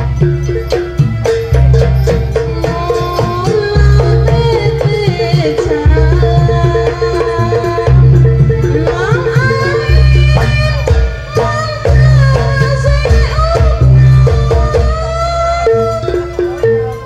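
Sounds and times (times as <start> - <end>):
booming drum beats: 0.0 - 17.0.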